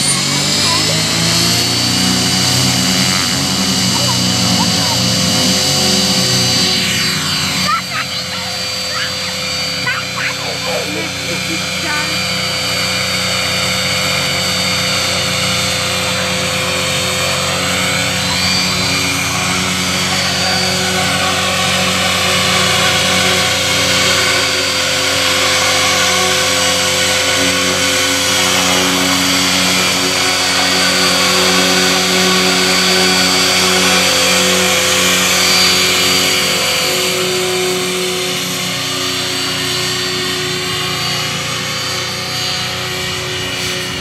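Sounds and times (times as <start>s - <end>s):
rc helicopter motor whine: 0.0s - 44.0s
rotor blades whirring: 0.0s - 44.0s.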